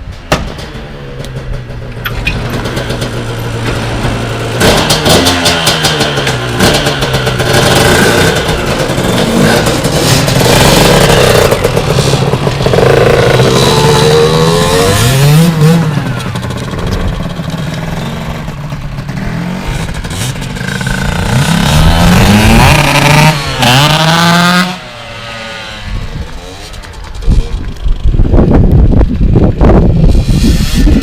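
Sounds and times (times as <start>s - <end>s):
dirt bike engine revving: 1.4s - 28.5s.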